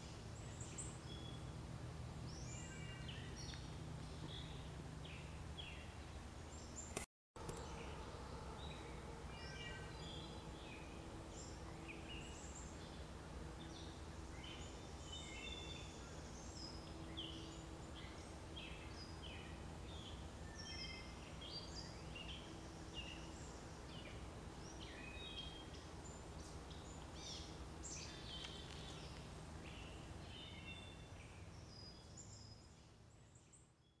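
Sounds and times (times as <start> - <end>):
low steady hum: 0.0 - 34.0
songbirds chirping: 0.0 - 34.0.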